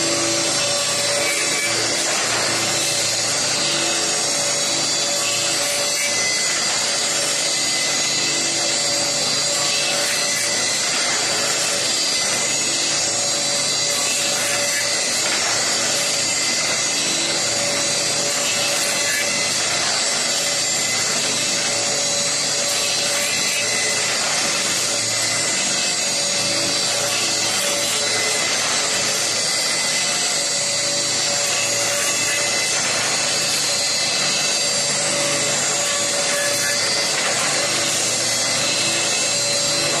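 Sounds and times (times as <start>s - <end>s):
machine motors and spinning cutters: 0.0s - 40.0s.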